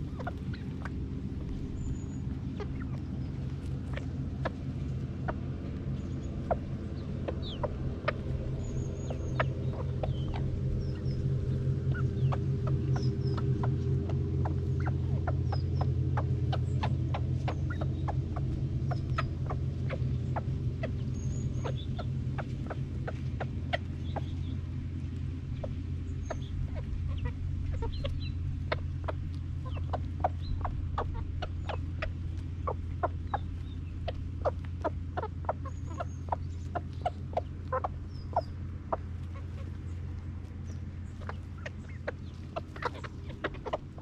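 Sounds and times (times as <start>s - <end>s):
chickens clucking: 0.0s - 44.0s
low steady hum: 0.0s - 44.0s.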